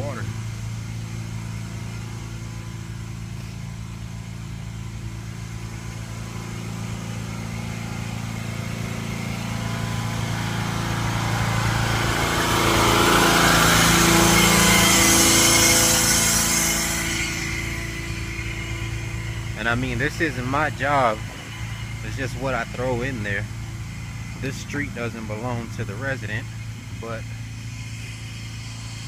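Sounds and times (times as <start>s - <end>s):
pressure washer engine running: 0.0s - 29.0s.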